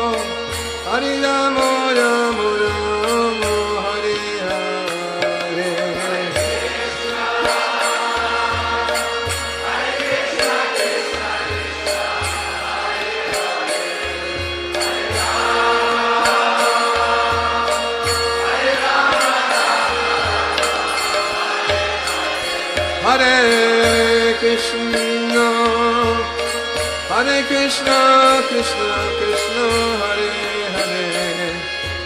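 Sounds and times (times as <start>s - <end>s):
instruments playing: 3.1s - 31.6s.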